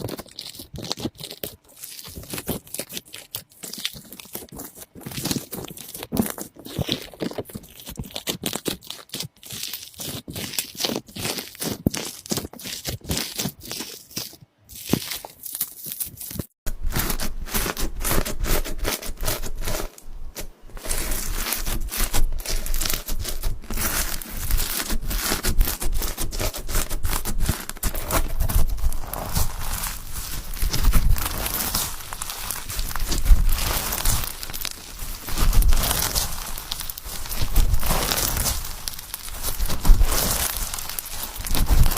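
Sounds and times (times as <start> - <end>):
slime crackling and popping: 0.0 - 41.9.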